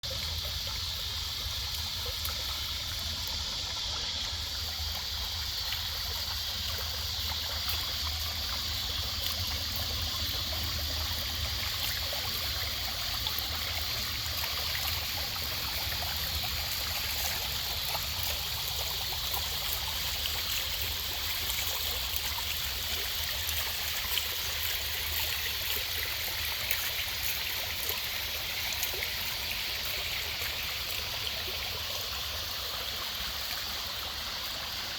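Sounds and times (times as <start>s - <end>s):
water splashing into pond: 0.0s - 34.9s.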